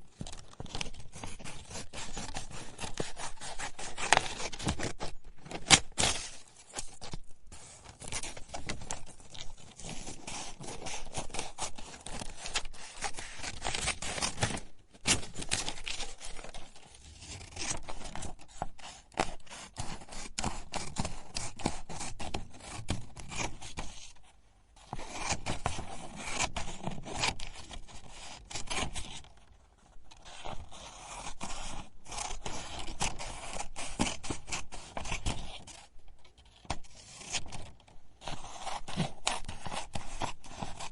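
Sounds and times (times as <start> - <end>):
scissors cutting paper: 0.2 - 23.9, 30.2 - 35.9, 36.5 - 40.9.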